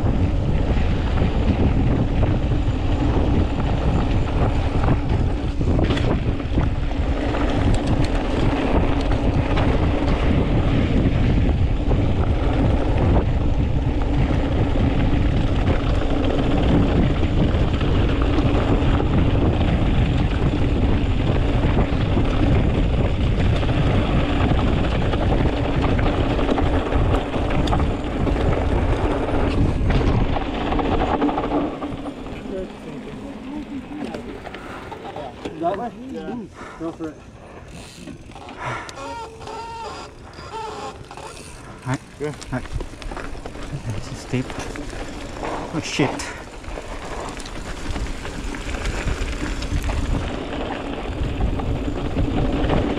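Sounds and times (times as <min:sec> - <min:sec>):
steady low rumble: 0:00.0 - 0:39.0, 0:41.5 - 0:52.9
wind buffeting microphone: 0:00.0 - 0:52.9.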